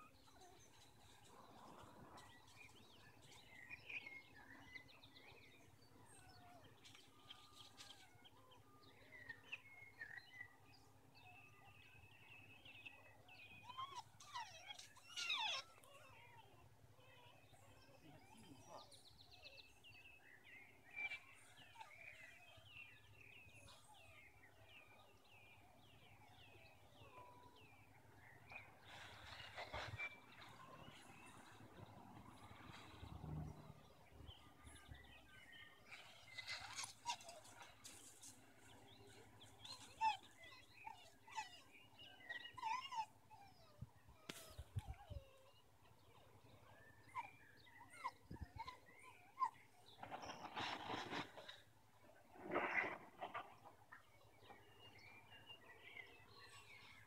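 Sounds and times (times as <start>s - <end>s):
faint birdsong chirps and trills: 0.0s - 57.0s.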